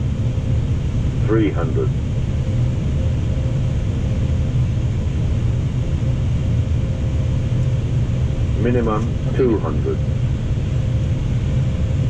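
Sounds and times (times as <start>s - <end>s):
aircraft cockpit rumble: 0.0s - 12.0s
faint steady hum: 0.0s - 12.0s.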